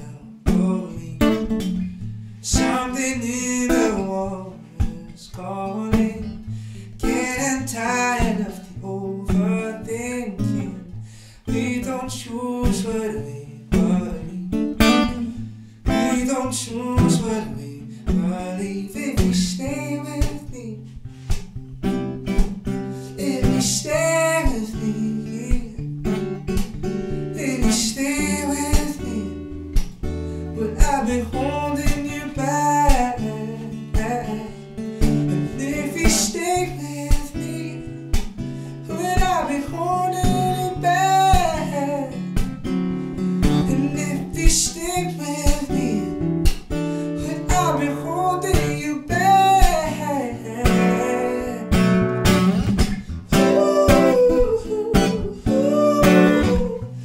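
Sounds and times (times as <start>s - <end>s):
man singing: 0.0s - 1.8s, 2.4s - 20.9s, 22.9s - 26.2s, 27.3s - 29.6s, 30.4s - 42.6s, 43.4s - 52.3s, 53.3s - 57.0s
strummed acoustic guitar: 0.0s - 57.0s.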